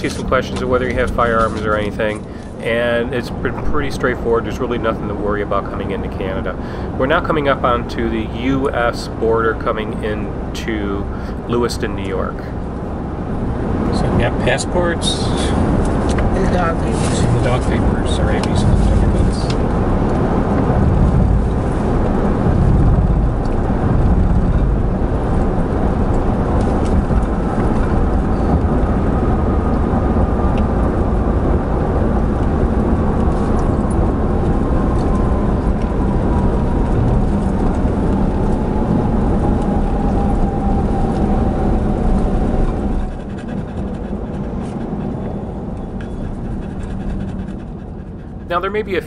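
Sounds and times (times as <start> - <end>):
vehicle road and engine noise: 0.0 - 49.0.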